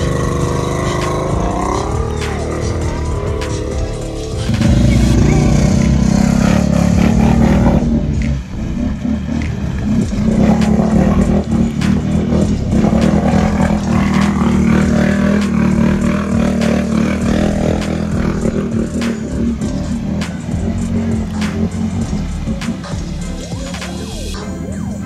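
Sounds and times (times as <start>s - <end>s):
sharp clacks: 0.0s - 24.3s
quad engine at high revs: 0.0s - 24.4s.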